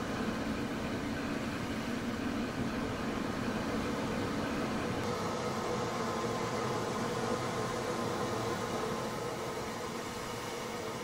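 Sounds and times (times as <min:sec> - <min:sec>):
model locomotives humming and hissing: 0:00.0 - 0:11.0.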